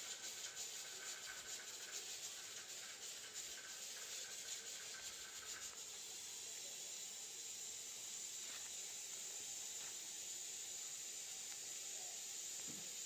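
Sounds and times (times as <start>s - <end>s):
room tone hiss: 0.0s - 13.0s.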